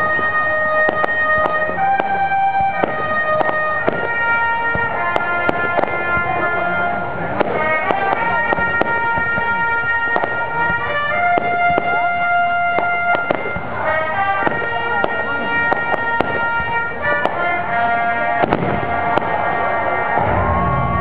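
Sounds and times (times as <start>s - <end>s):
fireworks bangs and pops: 0.0s - 21.0s
orchestral music: 0.0s - 21.0s.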